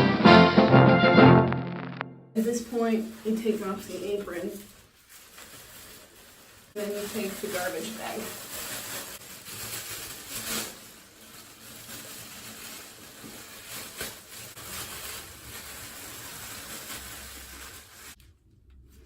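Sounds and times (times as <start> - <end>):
plastic bag rustling and crinkling: 2.4 - 19.0.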